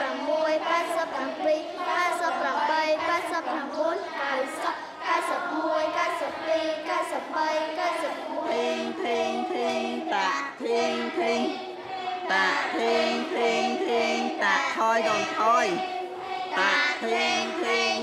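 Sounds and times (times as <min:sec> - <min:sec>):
children singing: 0:00.0 - 0:18.0.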